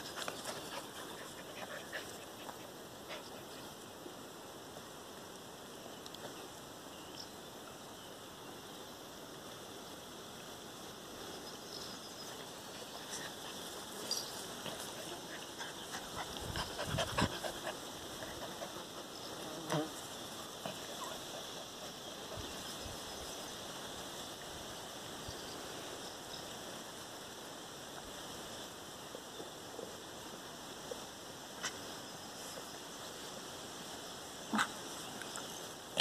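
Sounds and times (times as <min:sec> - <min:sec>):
faint high insect hum: 0:00.0 - 0:36.0.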